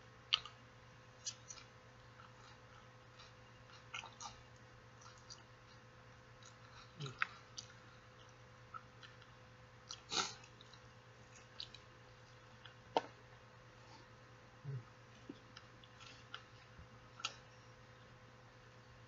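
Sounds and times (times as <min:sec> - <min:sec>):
faint steady hum: 0:00.0 - 0:19.0
person chewing with mouth clicks: 0:00.3 - 0:00.6, 0:01.2 - 0:12.8, 0:14.6 - 0:18.1.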